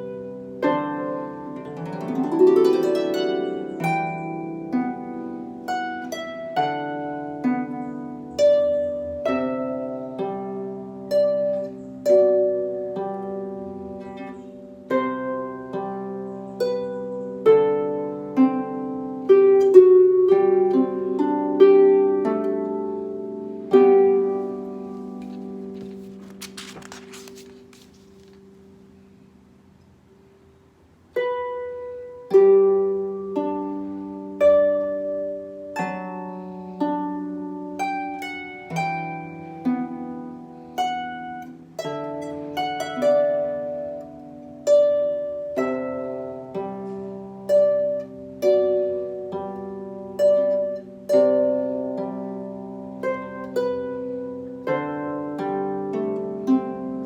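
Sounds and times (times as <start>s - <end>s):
harp plucked notes: 0.0s - 26.6s, 31.1s - 57.0s.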